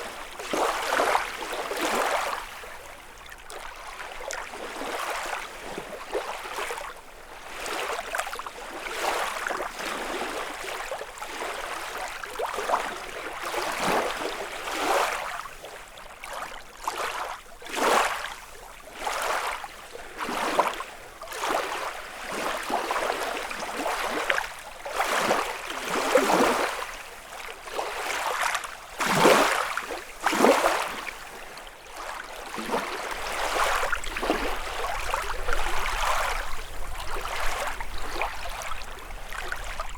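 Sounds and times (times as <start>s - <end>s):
waves lapping on shore: 0.0s - 39.9s.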